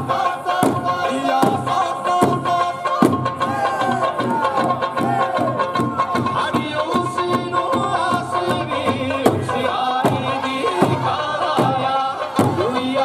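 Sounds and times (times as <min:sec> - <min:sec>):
barrel drums and hand drums beating: 0:00.0 - 0:13.0
people singing folk song: 0:00.0 - 0:13.0.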